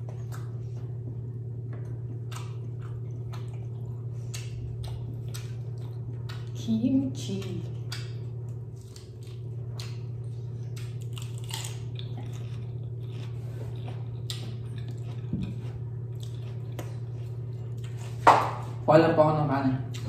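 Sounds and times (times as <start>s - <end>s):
crunching and chewing food: 0.0s - 18.8s
low steady hum: 0.0s - 20.0s.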